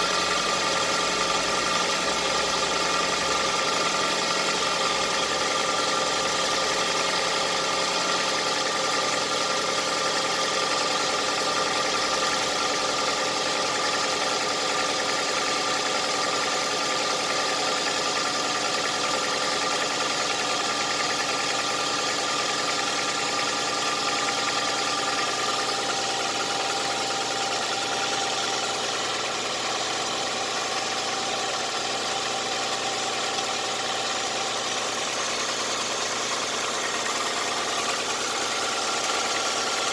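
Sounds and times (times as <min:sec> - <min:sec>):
engine running with knock: 0:00.0 - 0:39.9.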